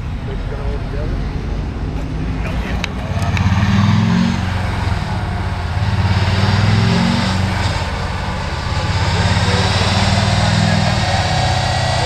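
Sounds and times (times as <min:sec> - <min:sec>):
diesel engine running hard: 0:00.0 - 0:12.0.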